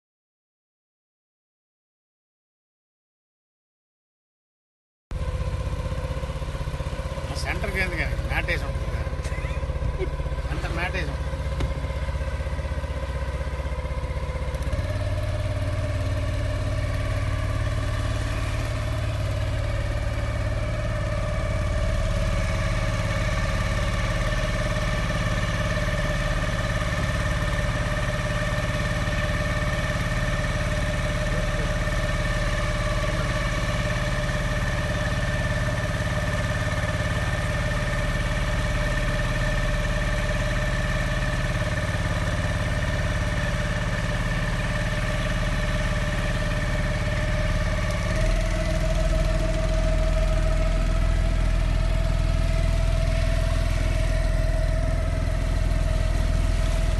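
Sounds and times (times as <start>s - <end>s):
outboard motor running: 5.1s - 56.9s.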